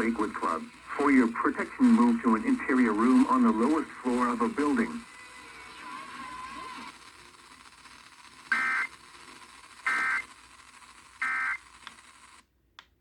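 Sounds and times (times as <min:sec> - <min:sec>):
faint radio hiss: 0:00.0 - 0:13.0.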